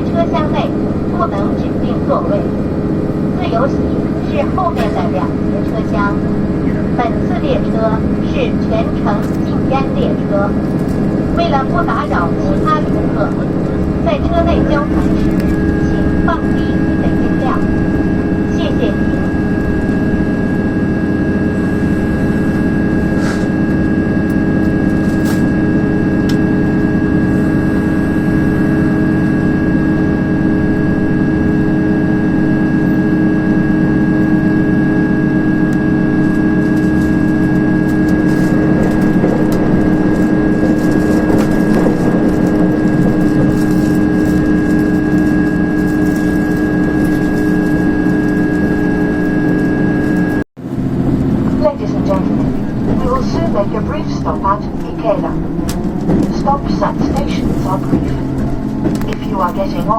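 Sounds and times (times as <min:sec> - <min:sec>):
diesel railcar engine drone: 0:00.0 - 0:59.9
steady whining tones: 0:00.0 - 0:59.9
wheel and rail running noise: 0:00.0 - 0:59.9.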